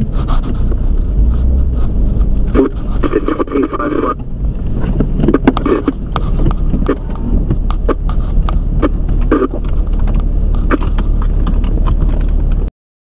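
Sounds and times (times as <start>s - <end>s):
car driving in wind: 0.0s - 12.7s
rain tapping on car: 0.2s - 12.7s.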